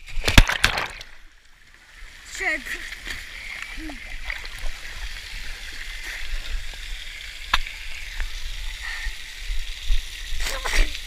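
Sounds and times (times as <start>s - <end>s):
water spraying and splashing: 1.8s - 11.0s.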